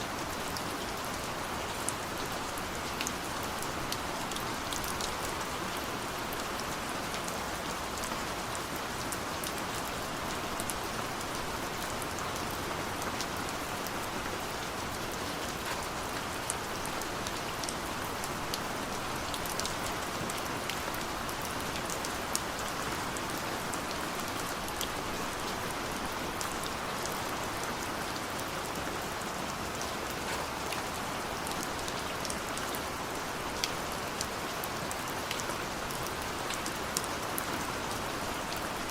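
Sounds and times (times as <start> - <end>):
steady rain: 0.0 - 38.9
raindrops ticking on surface: 0.1 - 38.9.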